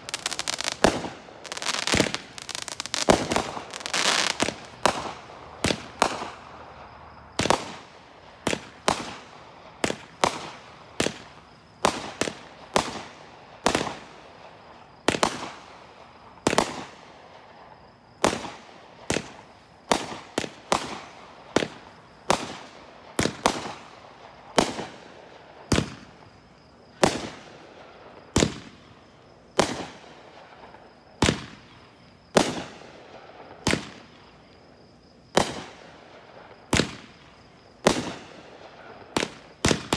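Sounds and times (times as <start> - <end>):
fireworks bangs with echo: 0.0 - 15.8, 17.8 - 26.3, 27.0 - 28.8, 29.5 - 34.3, 35.3 - 39.9.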